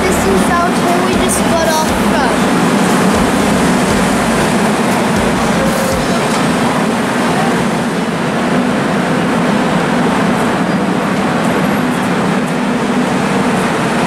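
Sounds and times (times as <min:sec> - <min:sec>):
electric train running past: 0:00.0 - 0:14.0
low hum: 0:00.0 - 0:14.0.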